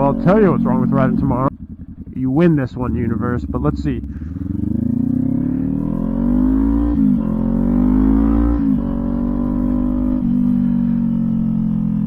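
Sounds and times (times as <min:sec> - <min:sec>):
motorcycle accelerating through gears: 0:00.0 - 0:12.0.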